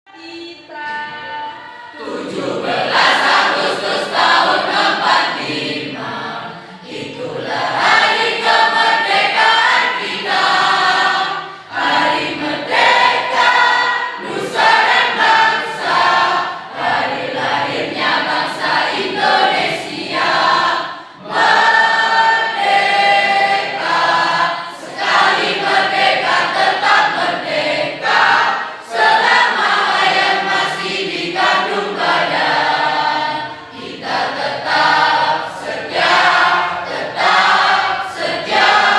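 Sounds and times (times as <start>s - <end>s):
choir singing: 0.1s - 38.9s.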